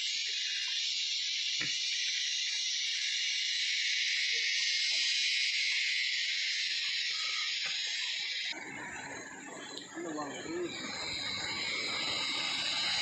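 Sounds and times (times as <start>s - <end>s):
forest insects chorus: 0.0s - 13.0s.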